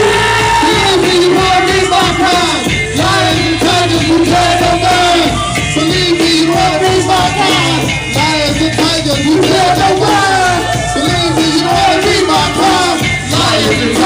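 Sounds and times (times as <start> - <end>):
hip-hop backing music over pa: 0.0 - 14.0.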